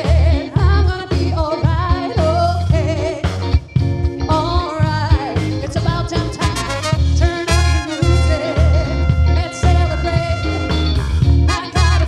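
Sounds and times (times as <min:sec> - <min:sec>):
woman singing: 0:00.0 - 0:03.4, 0:04.3 - 0:10.9, 0:11.5 - 0:12.0
live band playing upbeat music: 0:00.0 - 0:12.0.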